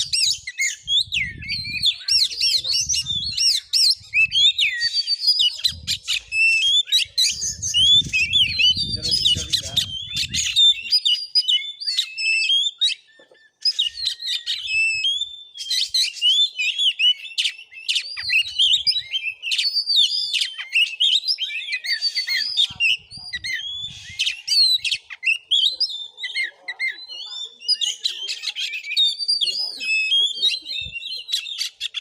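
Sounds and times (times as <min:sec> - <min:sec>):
songbird singing whistles and chirps: 0:00.0 - 0:32.0.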